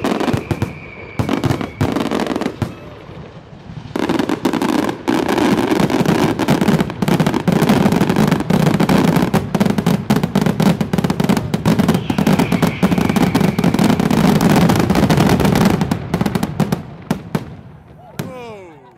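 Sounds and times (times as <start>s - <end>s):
fireworks bangs and crackling: 0.0s - 18.9s.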